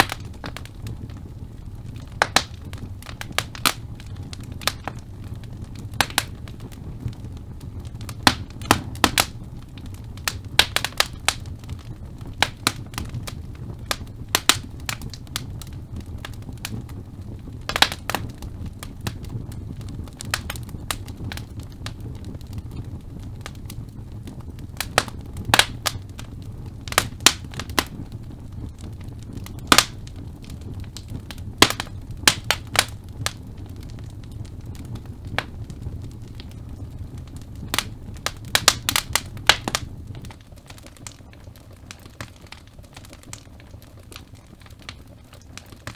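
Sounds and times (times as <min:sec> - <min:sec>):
logs crackling and popping: 0:00.0 - 0:45.9
low rumble of flames: 0:00.0 - 0:45.9.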